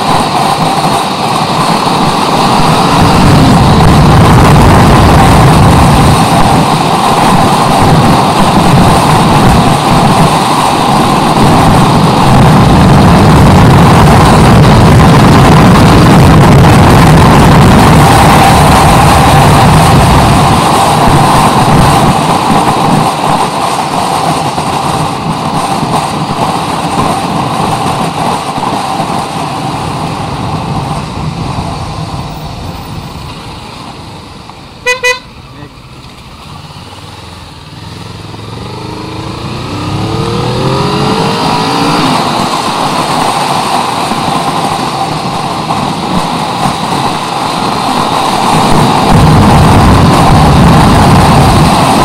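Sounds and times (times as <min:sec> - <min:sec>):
motorcycle riding: 0:00.0 - 0:52.0.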